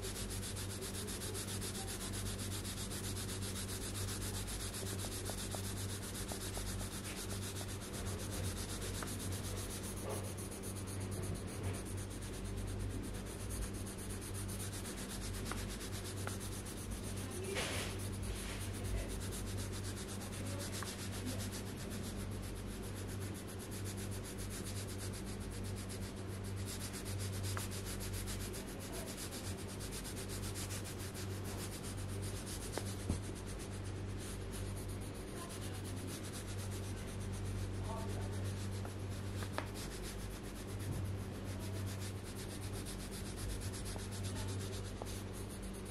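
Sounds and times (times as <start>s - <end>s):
colored pencil scratching on paper: 0.0s - 45.9s
steady low hum: 0.0s - 45.9s.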